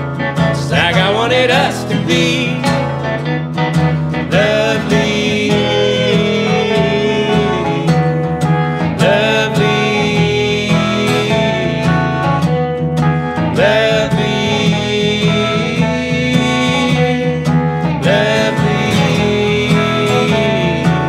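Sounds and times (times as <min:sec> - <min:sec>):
acoustic guitar strummed: 0:00.0 - 0:21.0
electric guitar: 0:00.0 - 0:21.0
men singing: 0:00.4 - 0:03.2, 0:03.9 - 0:12.7, 0:13.3 - 0:21.0.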